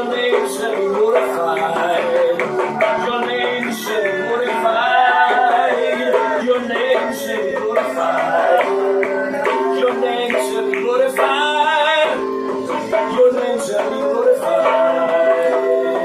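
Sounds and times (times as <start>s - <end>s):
electronic keyboard chords: 0.0s - 16.0s
man singing: 0.0s - 16.0s.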